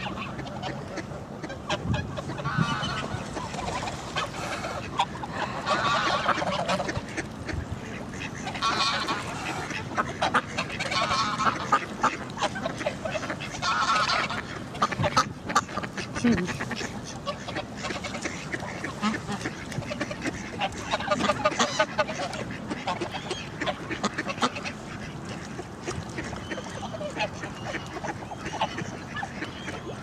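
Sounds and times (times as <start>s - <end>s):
geese honking: 0.0s - 7.3s, 7.9s - 25.2s
ducks quacking: 0.0s - 30.0s.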